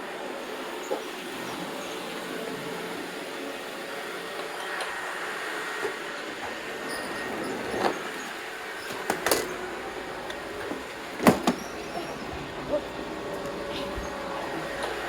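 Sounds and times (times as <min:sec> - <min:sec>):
robot vacuum whirring: 0:00.4 - 0:15.0.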